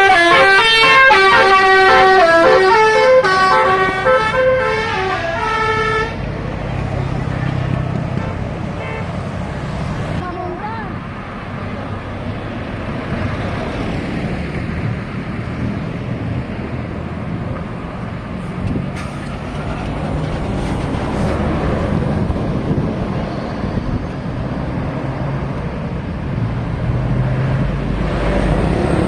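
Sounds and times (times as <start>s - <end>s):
road traffic: 0.0s - 29.0s
vehicle passing: 0.0s - 29.0s.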